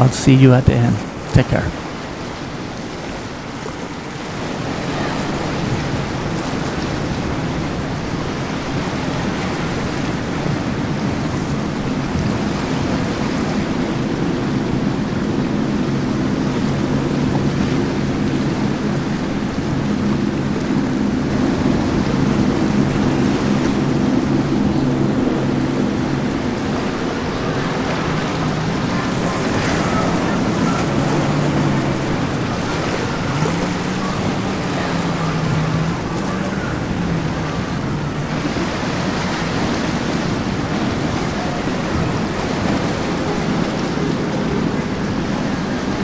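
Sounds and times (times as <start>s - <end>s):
boat engines humming: 0.0s - 46.0s
boat hull rushing through water: 0.0s - 46.0s.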